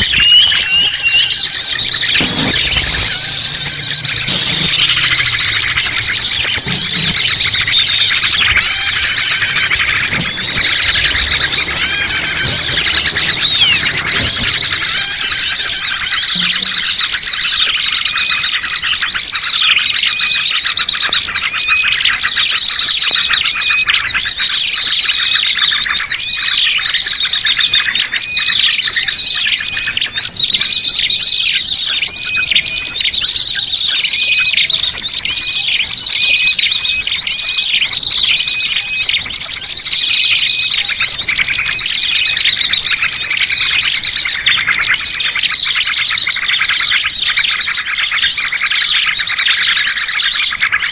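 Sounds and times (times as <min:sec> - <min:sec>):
small birds chirping and trilling: 0:00.0 - 0:50.9.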